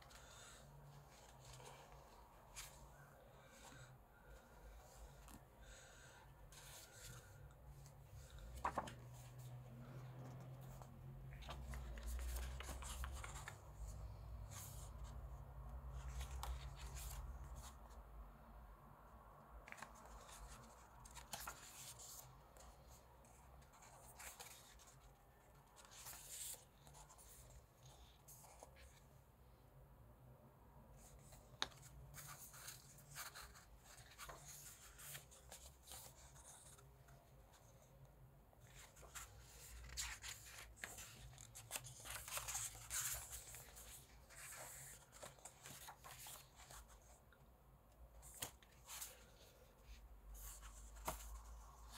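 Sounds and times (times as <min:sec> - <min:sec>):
book pages turning: 0:00.1 - 0:15.2, 0:15.8 - 0:18.0, 0:19.6 - 0:29.0, 0:31.0 - 0:37.8, 0:38.5 - 0:47.2, 0:48.1 - 0:51.9.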